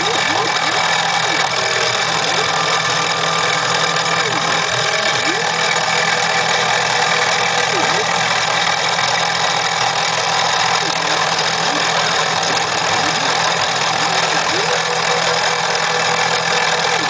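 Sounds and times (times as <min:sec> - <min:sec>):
engraving bit cutting wood: 0:00.0 - 0:17.0
mill spindle motor running: 0:00.0 - 0:17.0
stepper motor whines: 0:00.0 - 0:17.0.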